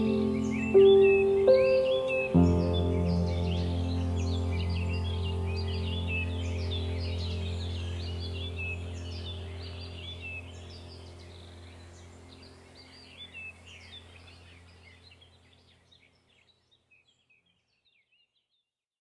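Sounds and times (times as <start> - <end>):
low hum: 0.0 - 15.5
small birds chirping: 0.0 - 18.7.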